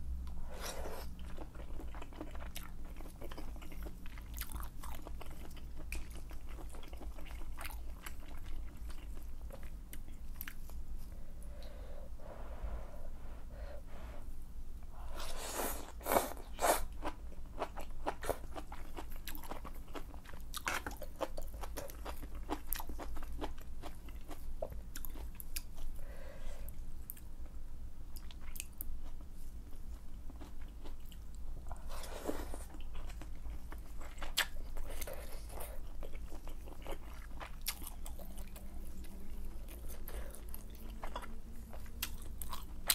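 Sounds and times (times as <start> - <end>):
steady low hum: 0.0 - 42.9
close-miked chewing: 0.5 - 10.8, 15.8 - 26.0, 28.1 - 42.9.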